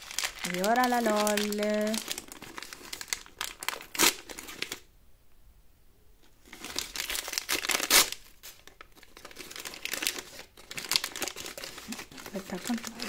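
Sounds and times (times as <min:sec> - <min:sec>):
plastic wrapper tearing and crinkling: 0:00.0 - 0:04.9, 0:06.4 - 0:13.0.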